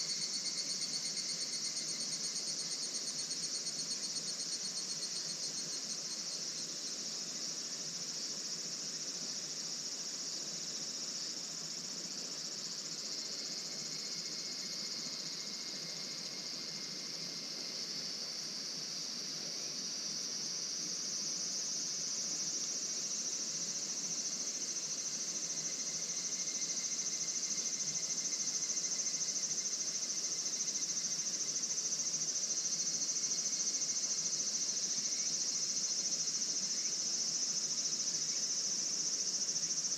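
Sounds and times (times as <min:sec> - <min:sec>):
crickets and insects trilling: 0:00.0 - 0:39.9
lower insect trill: 0:00.0 - 0:39.9.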